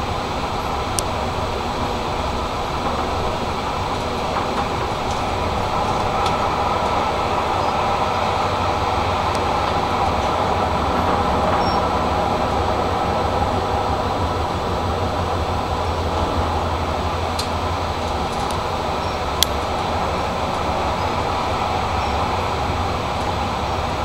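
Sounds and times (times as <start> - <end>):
low motor hum: 0.0 - 24.0
tram rolling on rails: 0.0 - 24.0.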